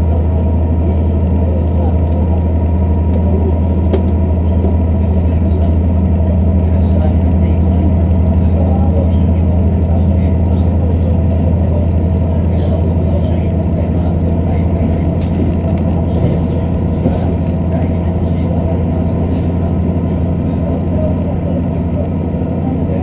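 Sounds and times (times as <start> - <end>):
train carriage hum: 0.0 - 23.0
wheels rumbling on rails: 0.0 - 23.0.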